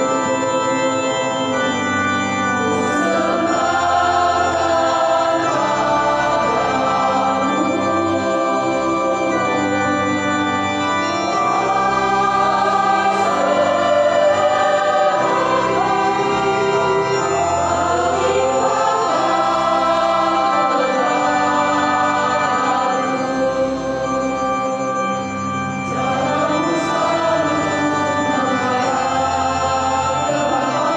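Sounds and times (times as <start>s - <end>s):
choir singing a hymn: 0.0s - 30.9s
organ: 0.0s - 30.9s.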